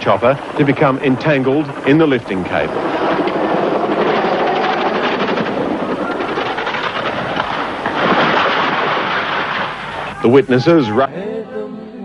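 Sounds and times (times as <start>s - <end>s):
helicopter rotor chop: 0.0s - 10.6s.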